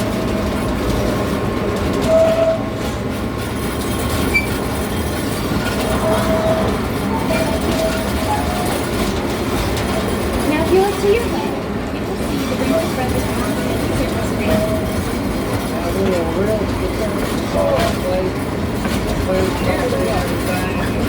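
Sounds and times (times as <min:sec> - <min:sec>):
ride train wheels rumbling on rail: 0:00.0 - 0:21.0.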